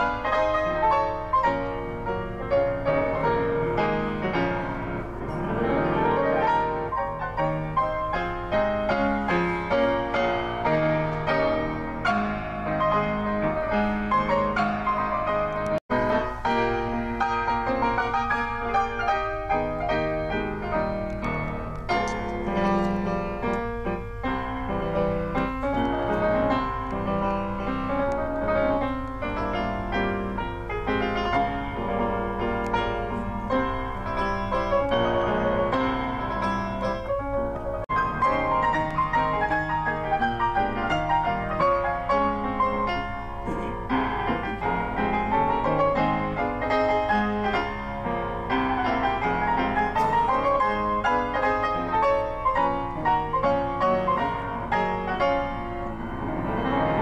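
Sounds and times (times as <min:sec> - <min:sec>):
grand piano classical piece: 0:00.0 - 0:57.0.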